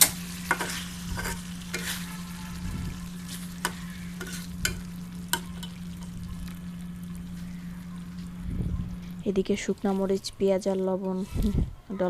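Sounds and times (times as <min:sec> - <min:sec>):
curry sizzling in a pan: 0:00.0 - 0:11.4
steady low hum: 0:00.0 - 0:12.0.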